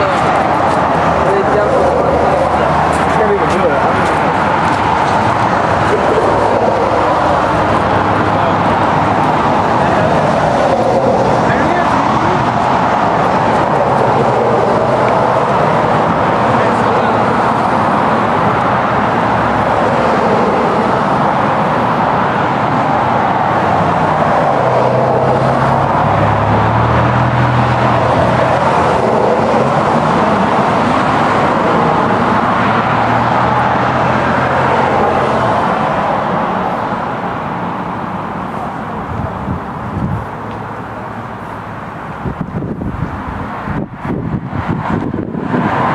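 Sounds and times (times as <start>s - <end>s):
loud vehicle noise: 0.0s - 45.9s
low engine hum: 0.0s - 45.9s.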